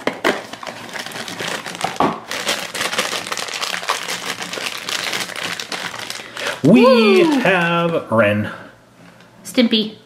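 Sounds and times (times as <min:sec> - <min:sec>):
box and plastic bag rustling: 0:00.0 - 0:08.1.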